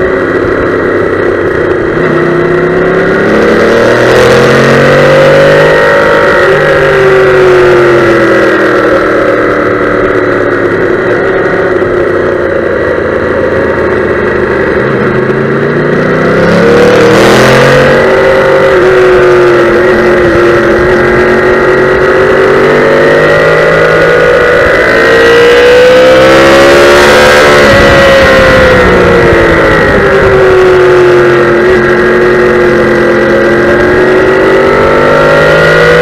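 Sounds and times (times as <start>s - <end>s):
motorcycle engine accelerating: 0.0s - 36.0s
rush of noise: 0.0s - 36.0s.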